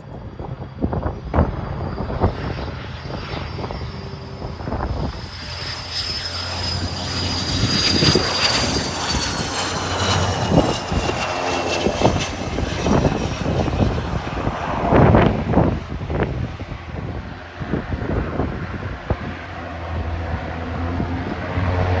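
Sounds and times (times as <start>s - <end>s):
gusty rumbling: 0.0s - 22.0s
jet engines whining: 0.0s - 22.0s.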